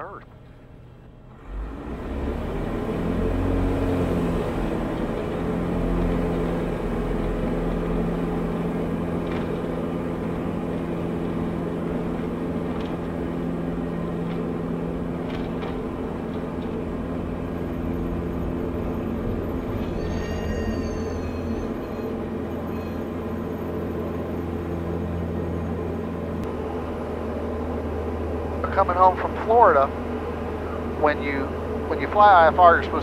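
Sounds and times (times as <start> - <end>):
propeller plane engine full power: 0.0 - 33.0.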